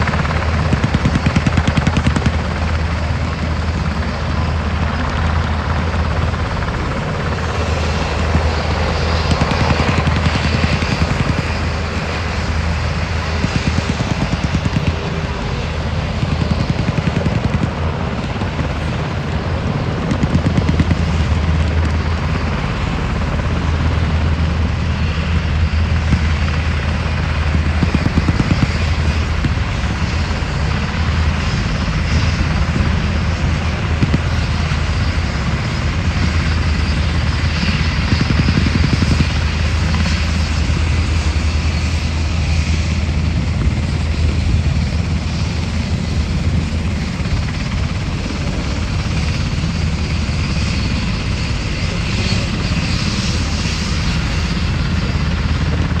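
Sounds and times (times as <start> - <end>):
helicopter rotor beat: 0.0 - 56.0.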